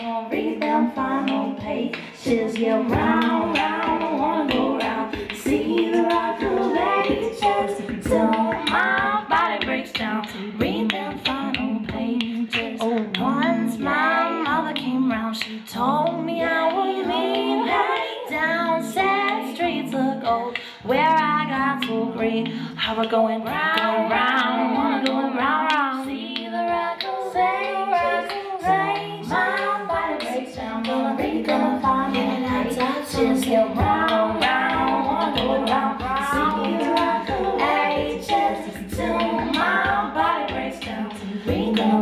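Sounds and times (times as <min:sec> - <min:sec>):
beatboxed percussive clicks: 0:00.0 - 0:42.0
layered repeating vocal parts: 0:00.0 - 0:42.0
woman singing a melody: 0:00.0 - 0:42.0.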